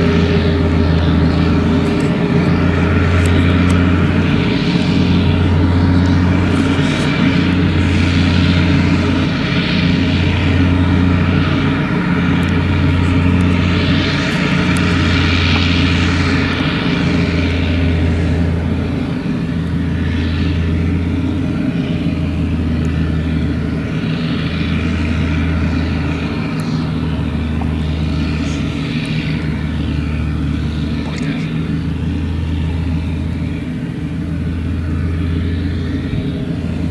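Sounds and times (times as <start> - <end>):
forage harvester machine drone: 0.0 - 36.9
pulsing low hum: 0.0 - 36.9
tractor engine: 0.0 - 36.9.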